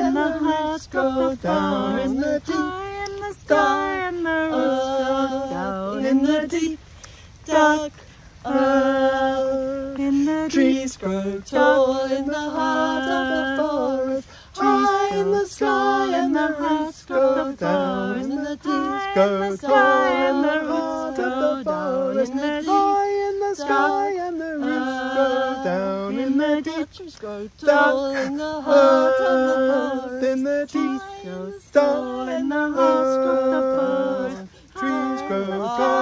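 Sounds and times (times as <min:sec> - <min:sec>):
people singing in harmony: 0:00.0 - 0:36.0.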